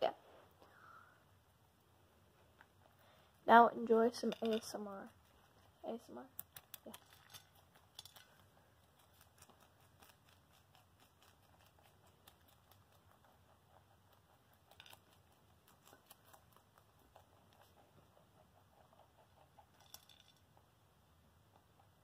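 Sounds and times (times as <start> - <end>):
rabbits nibbling greens: 1.2 - 22.0.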